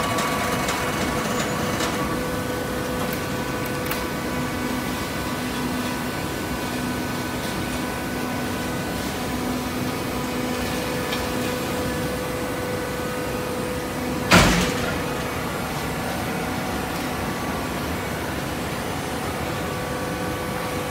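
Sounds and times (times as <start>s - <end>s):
baler mechanical hum: 0.0s - 20.9s.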